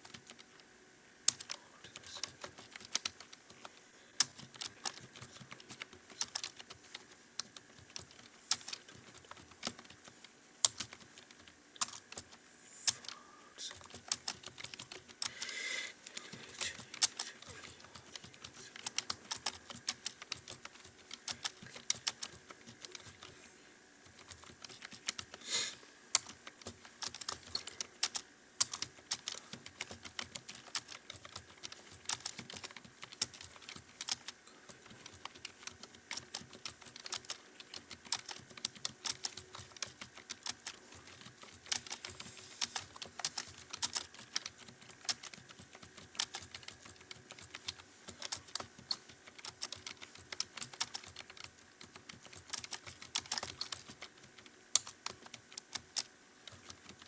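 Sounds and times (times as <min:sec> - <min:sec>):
typing on computer keyboard: 0:00.0 - 0:00.7, 0:01.3 - 0:23.3, 0:24.0 - 0:25.4, 0:26.1 - 0:57.0.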